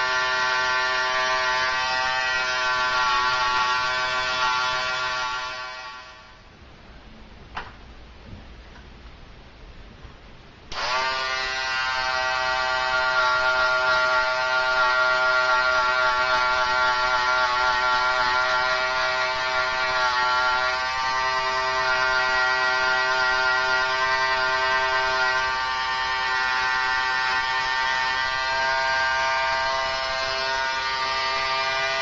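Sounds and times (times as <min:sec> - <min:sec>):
electric hair trimmer buzzing: 0:00.0 - 0:06.1, 0:10.7 - 0:32.0.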